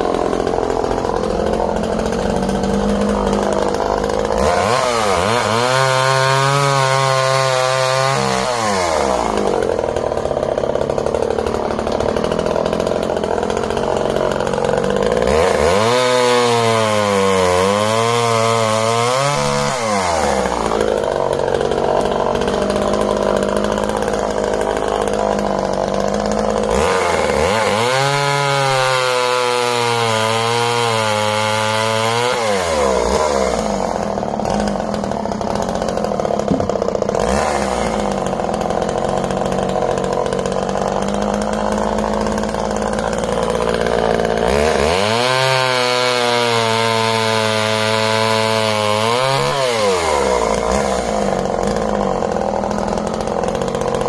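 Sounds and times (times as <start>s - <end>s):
chainsaw cutting a log: 0.0s - 54.0s
chainsaw revving and idling: 0.0s - 54.0s.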